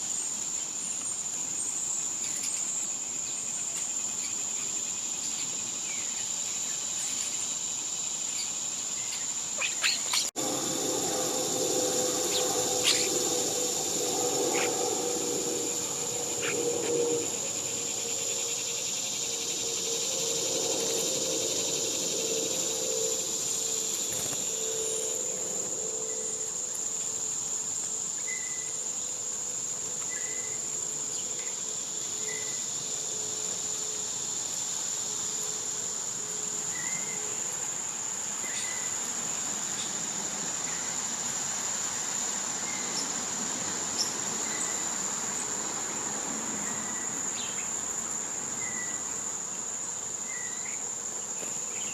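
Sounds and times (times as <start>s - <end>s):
cicada chorus drone: 0.0s - 51.9s.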